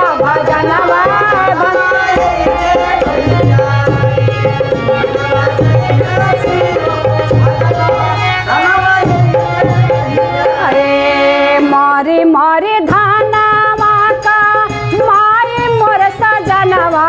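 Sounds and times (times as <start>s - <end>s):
hand drum rhythm: 0.0s - 11.6s, 12.8s - 17.0s.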